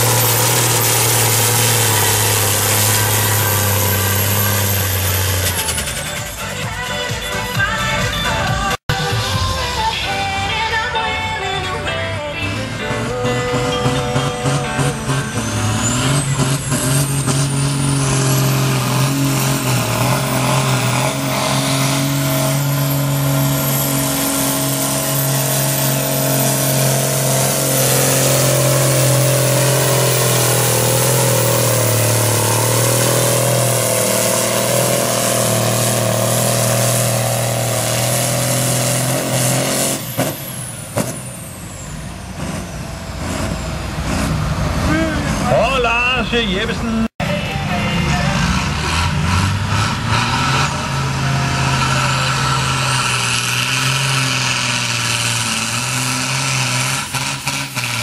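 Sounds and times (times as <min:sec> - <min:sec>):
high engine whine: 0:00.0 - 0:58.0
tractor diesel engine at full throttle: 0:00.0 - 0:58.0.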